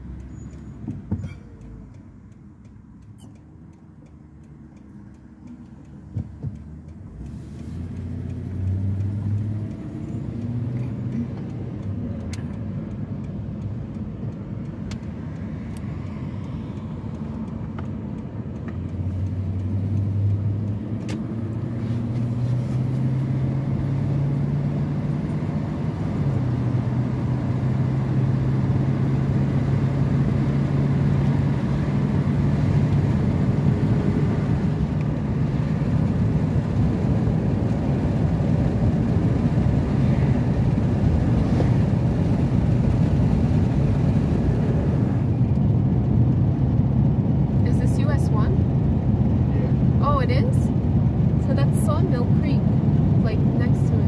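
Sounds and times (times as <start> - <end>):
car engine from inside cabin: 0.0 - 54.0
tyre road noise: 0.0 - 54.0.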